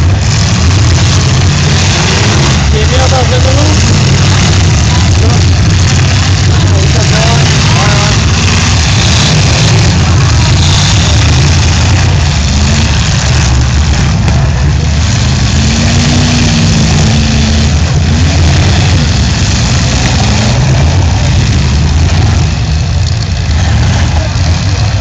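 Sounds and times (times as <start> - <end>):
car engines running together: 0.0 - 25.0.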